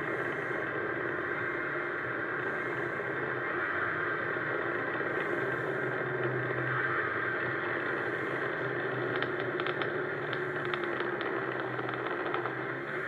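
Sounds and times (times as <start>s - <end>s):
constant hiss: 0.0s - 13.0s.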